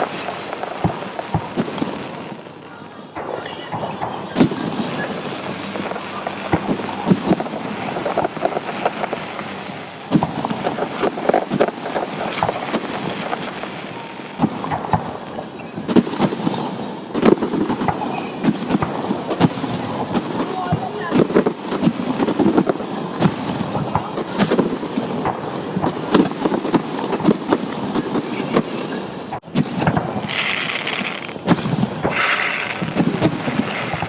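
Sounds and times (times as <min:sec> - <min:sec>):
fireworks booming: 0:00.0 - 0:34.0
fireworks crackling: 0:00.0 - 0:34.0.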